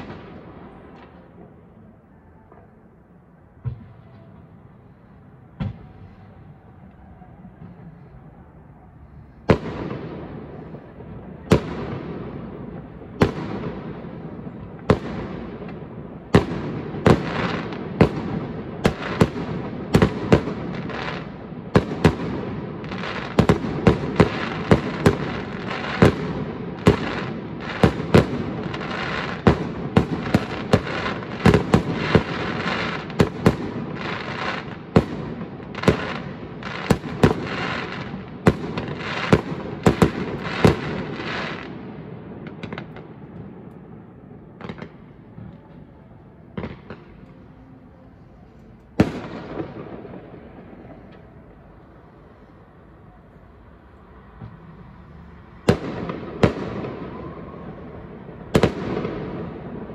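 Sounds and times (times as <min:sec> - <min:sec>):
fireworks bursting with bangs: 0:00.0 - 0:02.8, 0:09.3 - 0:52.9, 0:53.7 - 0:59.9.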